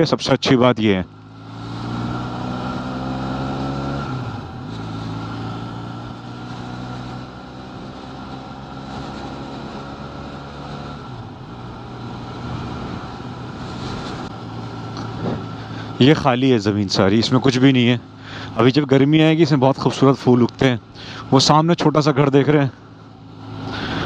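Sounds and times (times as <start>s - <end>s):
motorcycle engine riding: 0.0s - 24.0s.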